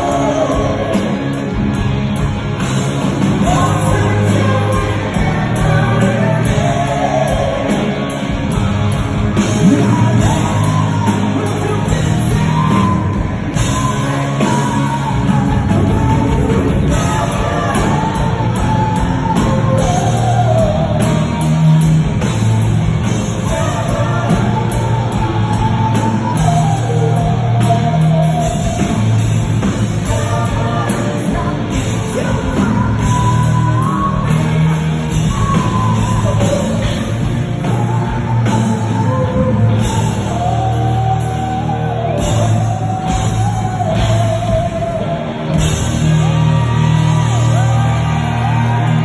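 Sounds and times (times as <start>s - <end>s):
lead vocal singing: 0.0s - 49.0s
rock band playing: 0.0s - 49.0s.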